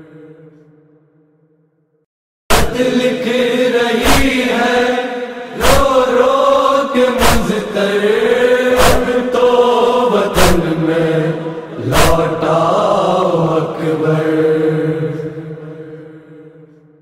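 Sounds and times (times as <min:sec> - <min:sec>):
voices chanting a lament: 0:00.0 - 0:00.6, 0:02.5 - 0:16.8.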